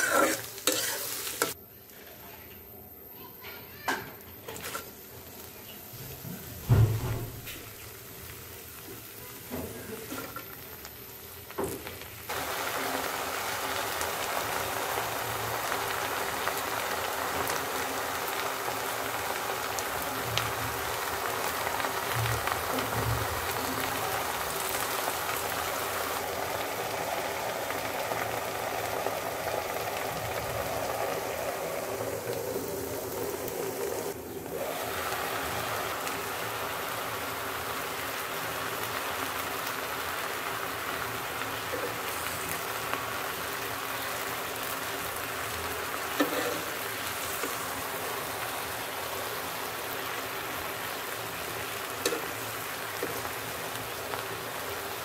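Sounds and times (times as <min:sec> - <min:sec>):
greens sizzling in a pan: 0:00.0 - 0:02.5, 0:03.2 - 0:55.0.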